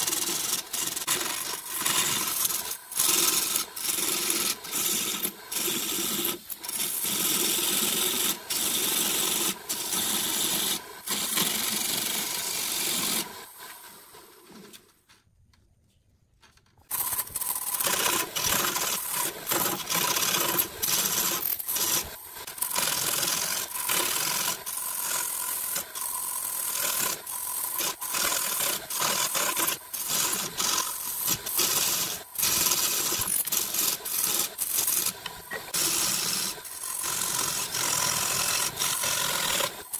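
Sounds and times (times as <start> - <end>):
wood lathe tool cutting: 0.0 - 14.0, 16.9 - 39.9.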